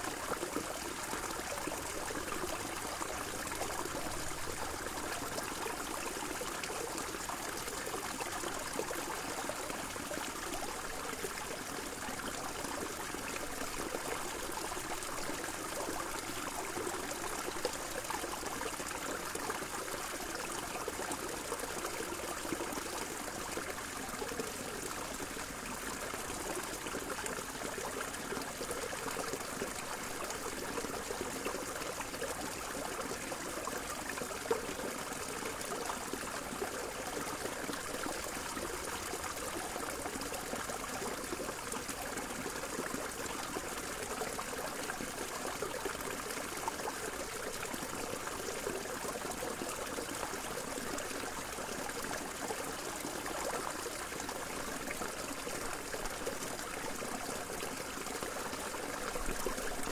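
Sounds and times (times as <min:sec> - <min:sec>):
stream trickling over rocks: 0:00.0 - 0:59.9.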